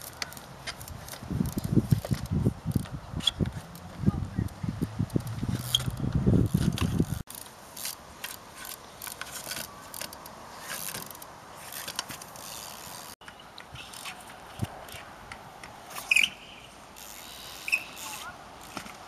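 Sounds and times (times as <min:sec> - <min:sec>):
bike tyres clicking on wood: 0:00.0 - 0:19.0.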